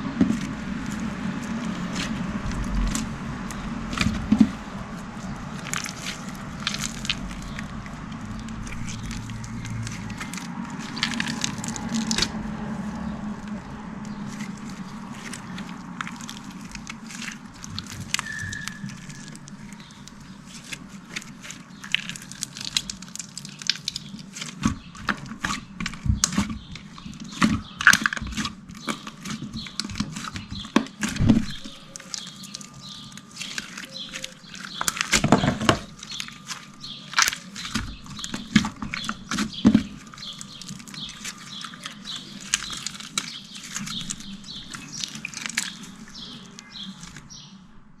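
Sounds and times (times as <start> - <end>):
slime squishing with sticky pops: 0.2 - 47.4.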